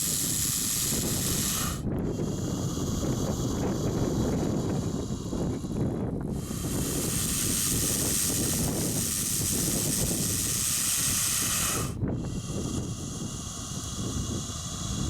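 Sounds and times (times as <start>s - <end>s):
snake hissing: 0.0s - 15.0s
wind rumbling on microphone: 0.0s - 15.0s.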